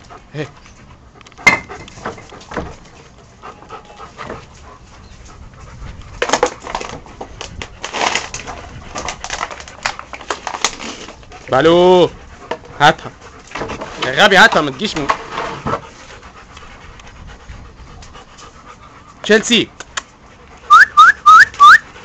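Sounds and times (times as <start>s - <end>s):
dogs panting: 0.0s - 22.0s.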